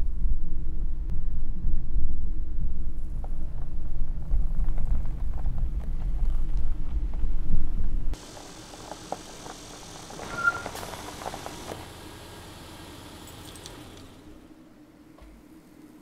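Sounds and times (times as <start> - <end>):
car road rumble: 2.2 - 15.6.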